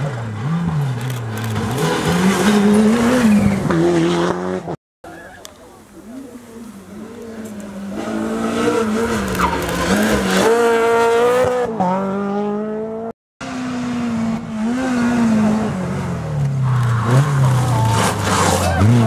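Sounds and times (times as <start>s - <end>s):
rally car engine revving: 0.0s - 4.8s, 6.1s - 19.0s.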